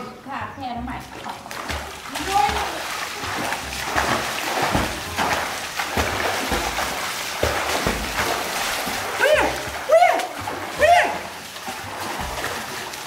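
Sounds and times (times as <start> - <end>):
water splashing in pool: 1.0 - 13.0.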